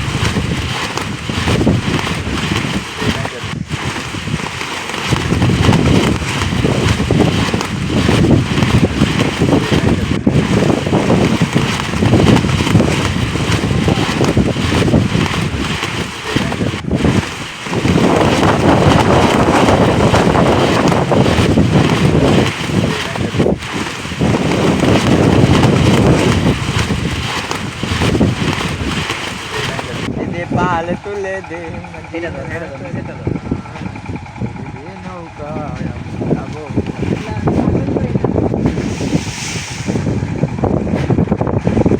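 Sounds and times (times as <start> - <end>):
strong wind buffeting microphone: 0.0 - 41.9.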